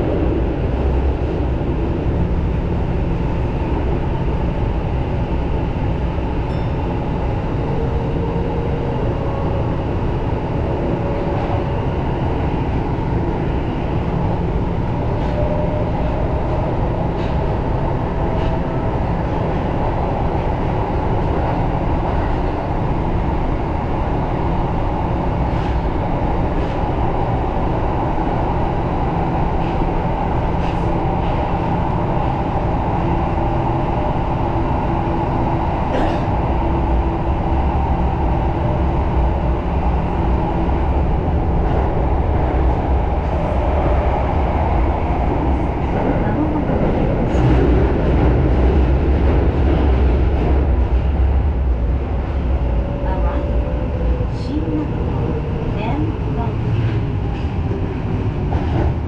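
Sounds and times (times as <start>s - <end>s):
subway train wheels rumbling on rails: 0.0s - 59.0s.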